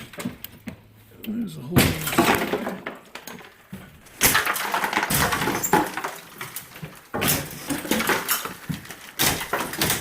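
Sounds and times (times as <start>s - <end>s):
brick rubble crunching and clattering: 1.8s - 10.0s.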